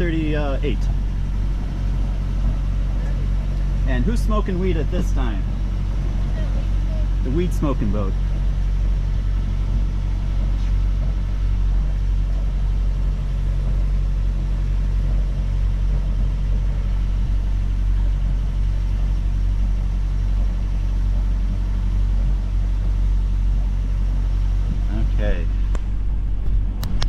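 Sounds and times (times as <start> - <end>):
boat diesel engine rumbling: 0.0 - 27.0.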